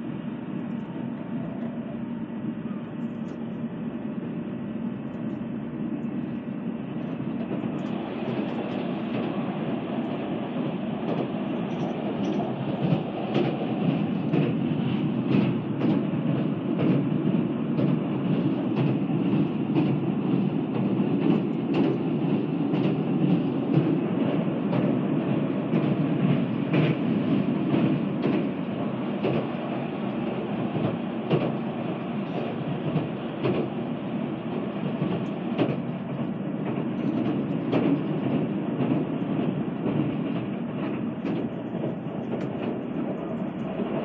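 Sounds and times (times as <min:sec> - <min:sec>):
train rolling rumble: 0:00.0 - 0:44.0.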